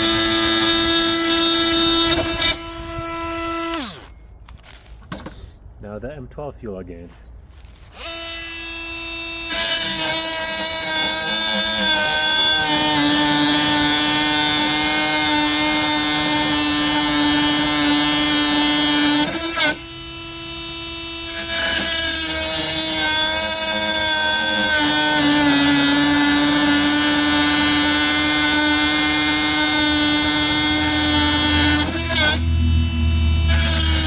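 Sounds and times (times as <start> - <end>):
multi-tool cutting wood: 0.0 - 4.2, 7.8 - 34.0.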